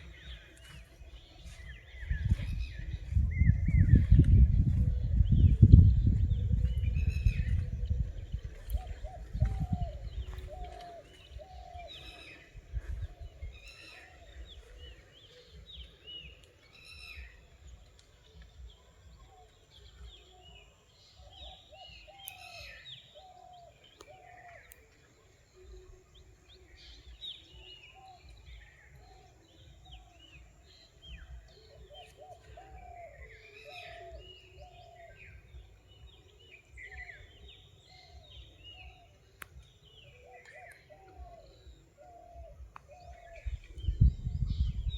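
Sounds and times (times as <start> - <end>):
wild birds chirping: 0.0 - 44.9.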